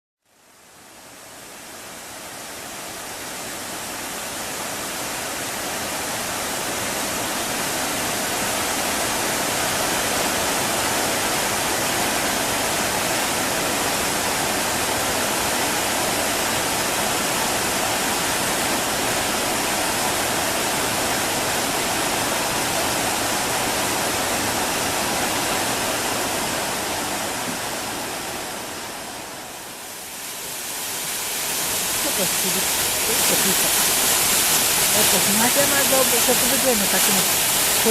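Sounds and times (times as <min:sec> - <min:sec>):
waterfall rushing: 0:01.1 - 0:37.9.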